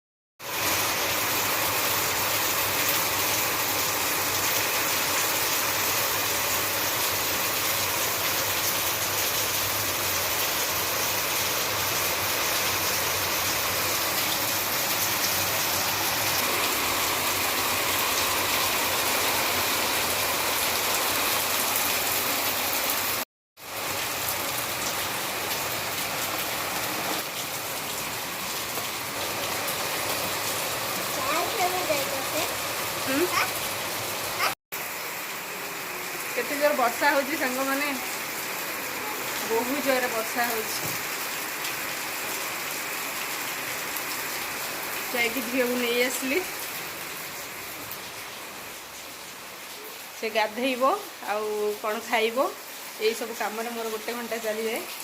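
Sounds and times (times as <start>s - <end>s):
heavy rain falling: 0.4s - 55.0s.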